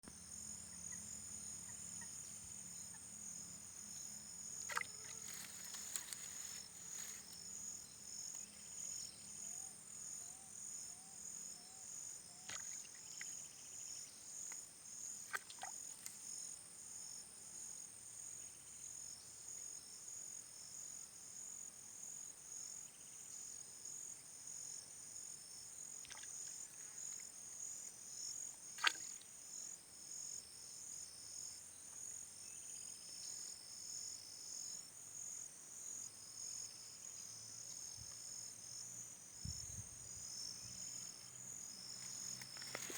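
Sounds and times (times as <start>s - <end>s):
insects trilling: 0.2s - 19.2s, 24.7s - 42.9s.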